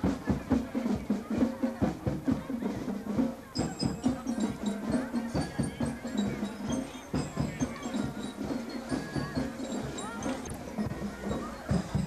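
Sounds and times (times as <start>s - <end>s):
drums beating march rhythm: 0.0s - 12.0s
marching band playing: 0.0s - 12.0s.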